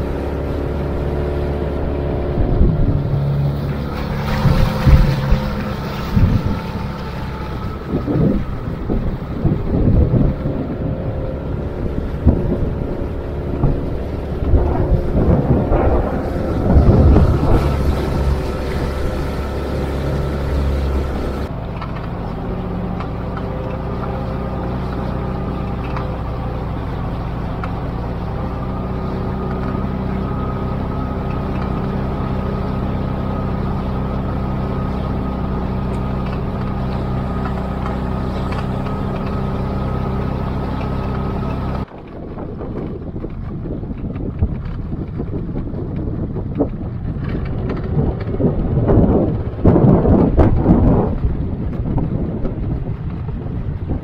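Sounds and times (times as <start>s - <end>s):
boat motor running: 0.0s - 54.0s
wind on microphone: 0.0s - 54.0s.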